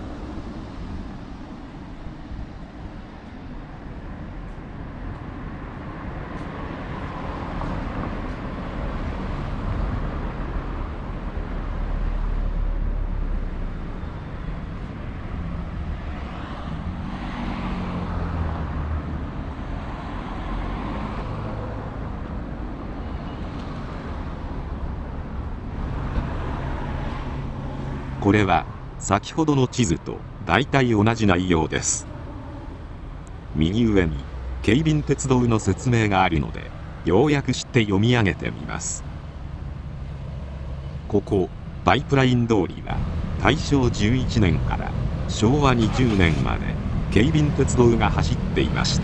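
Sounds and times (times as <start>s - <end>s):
rumble of passing cars: 0.0s - 49.0s.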